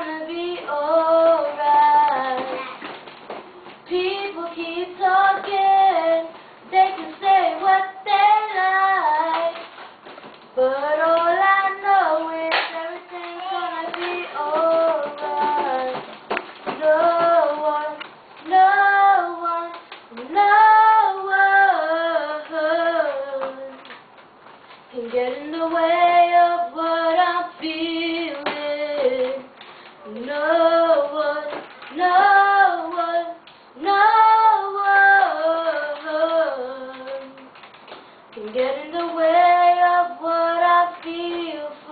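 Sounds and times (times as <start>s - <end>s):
girl singing: 0.0s - 24.1s, 24.8s - 37.6s, 38.3s - 41.9s.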